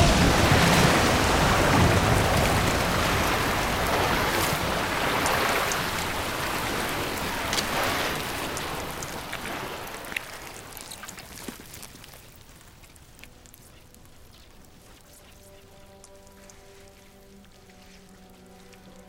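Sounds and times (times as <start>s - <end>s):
fluid gushing and splashing: 0.0s - 19.0s
sharp crackles: 0.0s - 19.0s.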